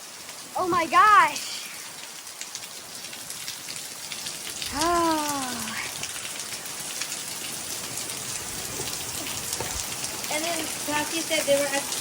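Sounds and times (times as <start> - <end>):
heavy rain pouring: 0.0 - 12.0
raindrops tapping near microphone: 0.0 - 12.0.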